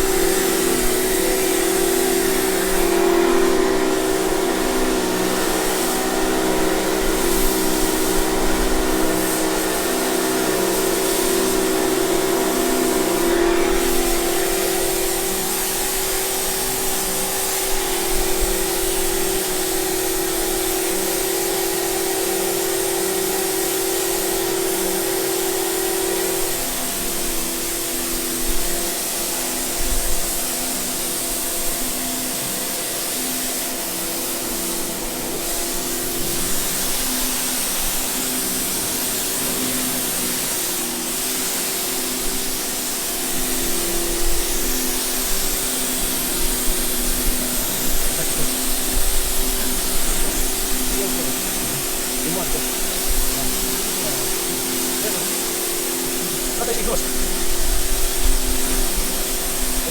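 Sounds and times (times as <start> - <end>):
cleaning machine motor hissing: 0.0 - 59.9.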